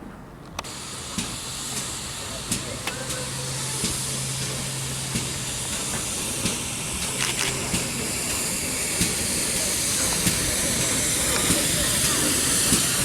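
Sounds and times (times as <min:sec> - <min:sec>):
steam locomotive hissing: 0:00.6 - 0:13.0.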